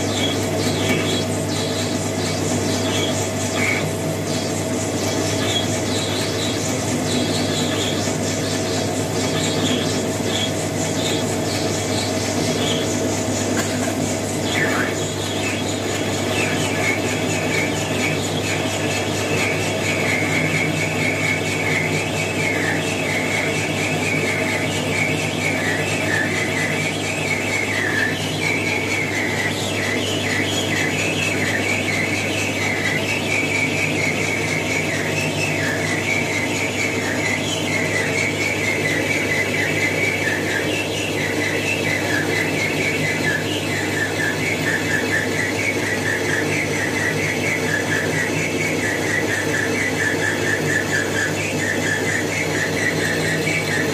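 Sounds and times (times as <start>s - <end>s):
lathe motor humming: 0.0s - 53.9s.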